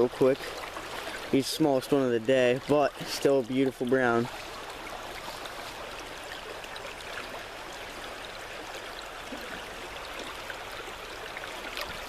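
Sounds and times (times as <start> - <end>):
creek water babbling: 0.0 - 12.0.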